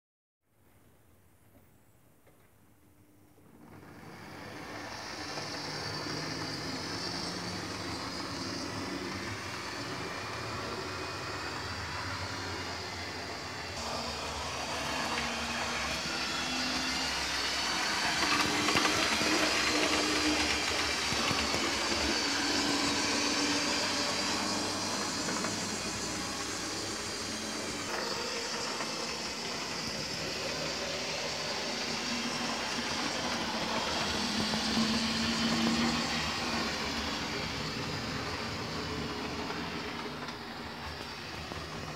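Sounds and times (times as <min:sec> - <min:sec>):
model train motors and wheels: 0:02.3 - 0:41.9.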